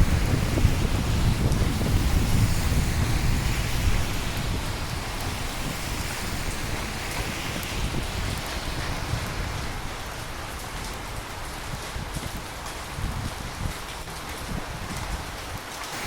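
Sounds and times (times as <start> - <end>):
low roll of thunder: 0.0 - 15.3
steady rain: 0.0 - 16.0.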